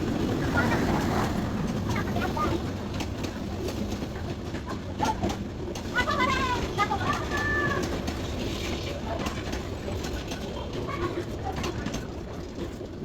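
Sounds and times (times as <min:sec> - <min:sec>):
train carriages rumbling and rattling: 0:00.0 - 0:13.0.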